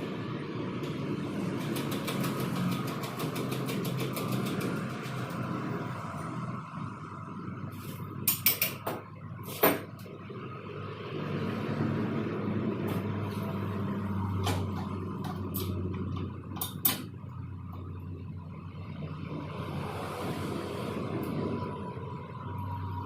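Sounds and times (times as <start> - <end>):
engine-like hum: 0.0 - 23.0.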